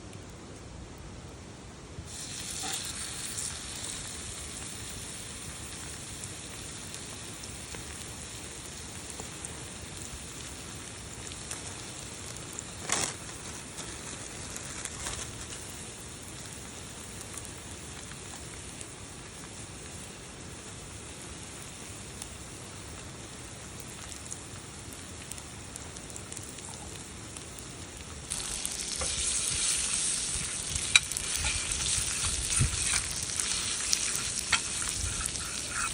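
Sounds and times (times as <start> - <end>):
steak sizzling in a frying pan: 2.1 - 35.9.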